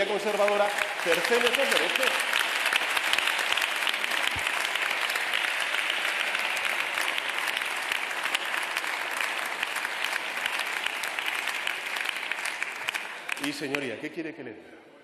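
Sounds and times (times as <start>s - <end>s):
many hands clapping: 0.0s - 14.0s.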